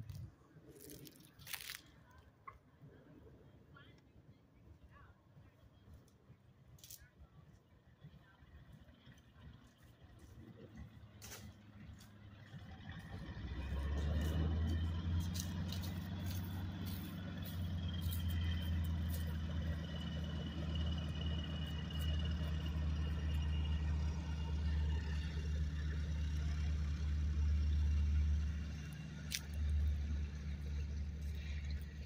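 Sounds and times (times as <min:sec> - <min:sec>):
biplane engine droning: 0:00.0 - 0:32.0.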